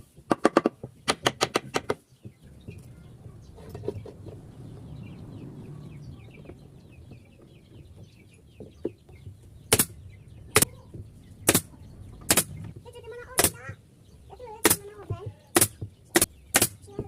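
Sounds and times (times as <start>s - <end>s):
low steady rumble: 2.5s - 16.5s.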